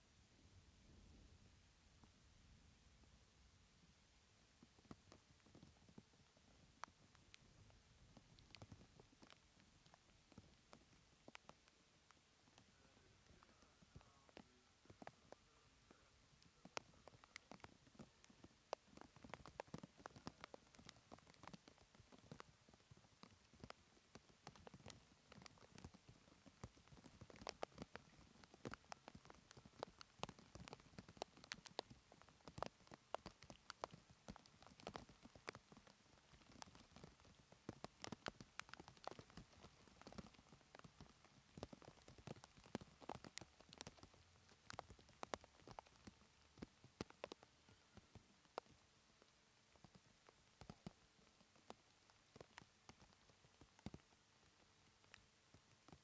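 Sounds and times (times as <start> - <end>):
raindrops pattering: 3.2 - 56.0.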